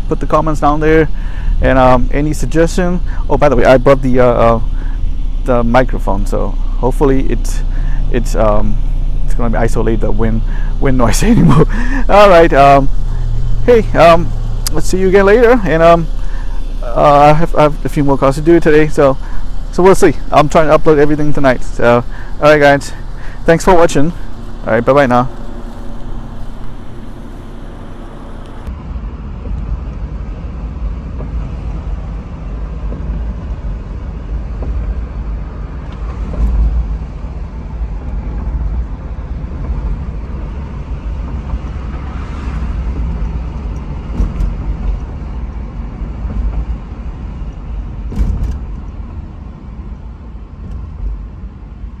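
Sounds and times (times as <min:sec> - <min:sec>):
engine and road rumble: 0:00.0 - 0:52.0
outdoor sound: 0:00.0 - 0:52.0.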